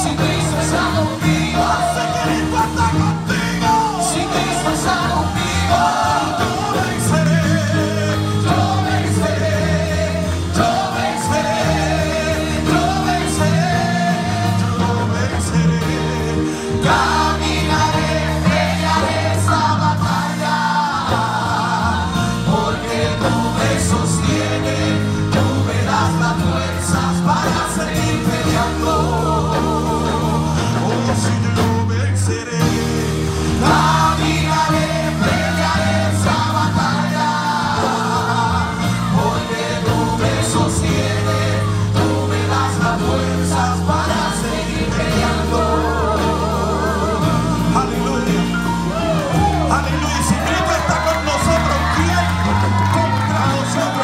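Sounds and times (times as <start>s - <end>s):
band with bass line: 0.0s - 54.0s
group singing gospel: 0.0s - 54.0s.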